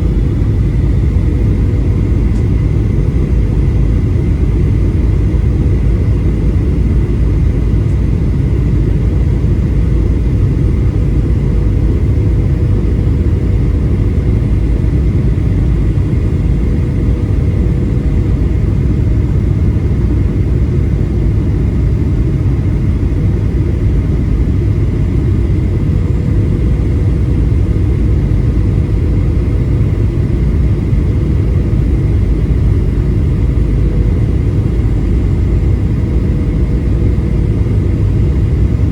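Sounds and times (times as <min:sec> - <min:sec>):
airplane engines rumbling: 0:00.0 - 0:38.9
faint steady hum: 0:00.0 - 0:38.9.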